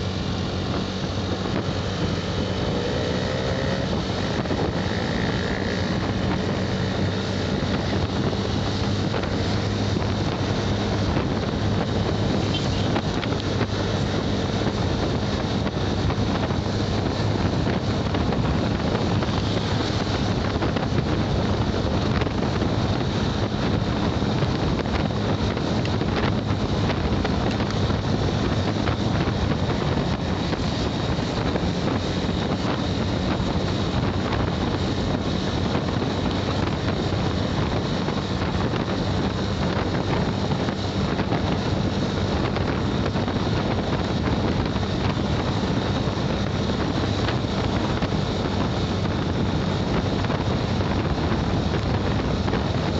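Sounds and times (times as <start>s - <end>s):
motorcycle engine hum: 0.0s - 52.9s
wind rushing over microphone: 0.0s - 52.9s.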